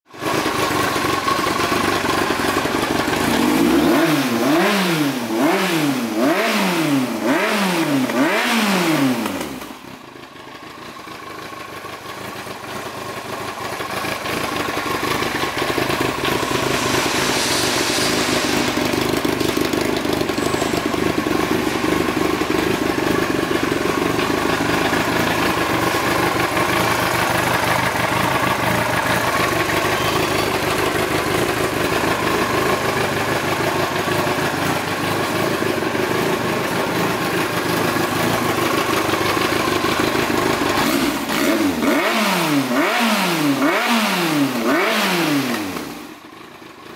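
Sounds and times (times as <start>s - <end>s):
motorcycle engine revving and idling: 0.1s - 17.9s, 18.7s - 46.9s.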